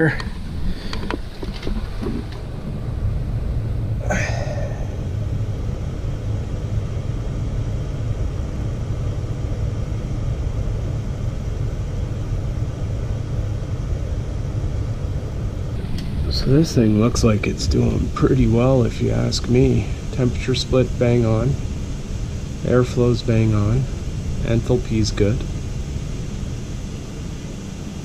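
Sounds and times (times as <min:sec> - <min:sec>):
furnace blower running: 0:00.0 - 0:28.0.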